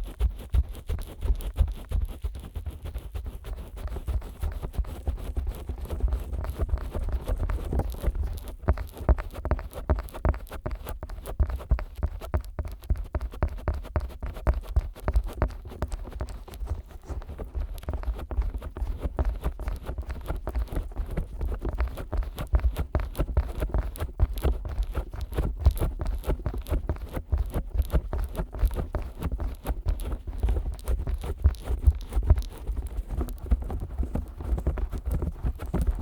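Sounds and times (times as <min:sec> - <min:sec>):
fingers tapping and rubbing microphone: 0:00.0 - 0:36.0.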